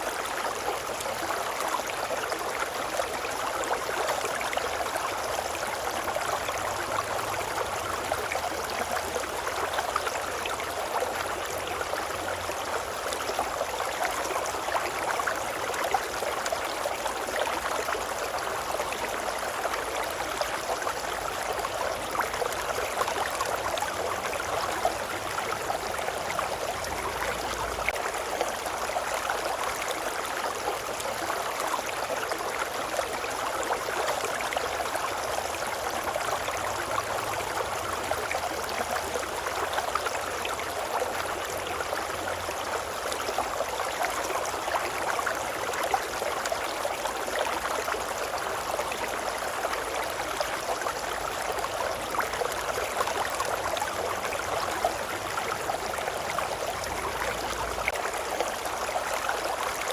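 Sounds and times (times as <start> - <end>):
brook water running: 0.0 - 59.9.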